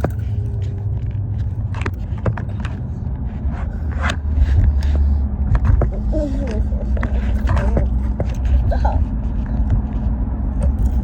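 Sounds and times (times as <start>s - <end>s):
car road rumble while driving: 0.0s - 11.0s
small clicks and rustles: 0.0s - 11.0s.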